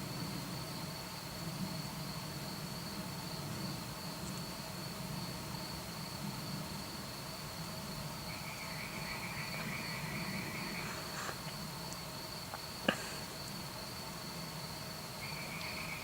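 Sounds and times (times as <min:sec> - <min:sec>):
crickets trilling: 0:00.0 - 0:16.0
lower cricket trill: 0:00.0 - 0:16.0.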